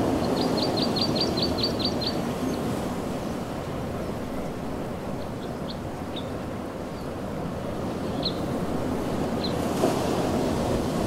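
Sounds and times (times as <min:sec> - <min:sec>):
sea surf: 0:00.0 - 0:11.0
wind: 0:00.0 - 0:11.0.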